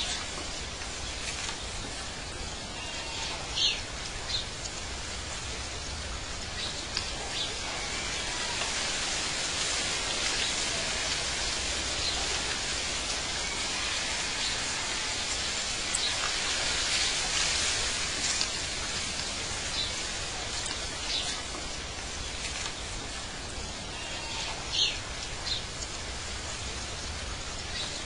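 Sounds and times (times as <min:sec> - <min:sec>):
steady rushing hiss: 0:00.0 - 0:28.0.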